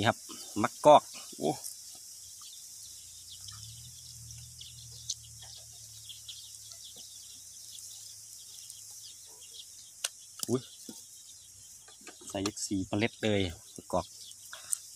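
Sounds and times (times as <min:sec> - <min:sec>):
bird chirps: 0:00.0 - 0:14.9
insect hiss: 0:00.0 - 0:14.9.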